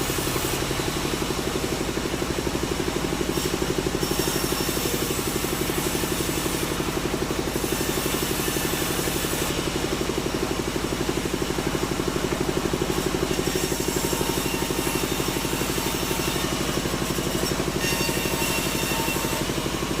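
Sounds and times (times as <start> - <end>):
sawmill engine throbbing: 0.0 - 20.0.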